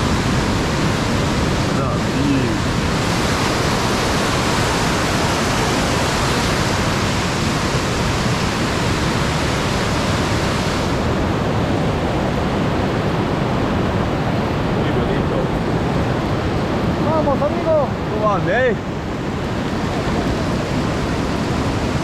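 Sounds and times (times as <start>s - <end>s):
fast-flowing river water: 0.0s - 22.0s.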